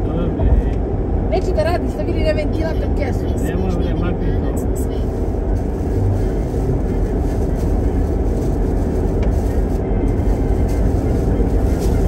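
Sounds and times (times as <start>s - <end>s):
tyre and engine noise in car: 0.0s - 12.0s.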